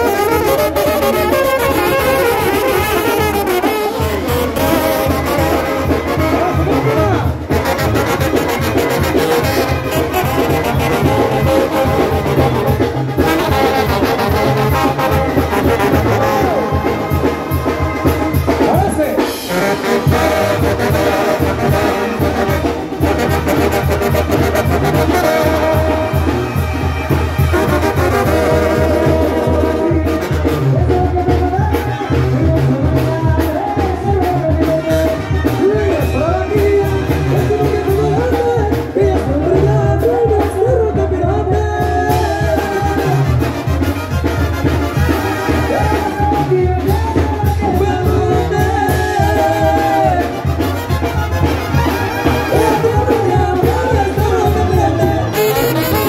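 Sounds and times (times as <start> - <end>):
brass band music: 0.0 - 56.0
trombones and trumpets: 0.0 - 56.0
tuba and drum beat: 0.0 - 56.0.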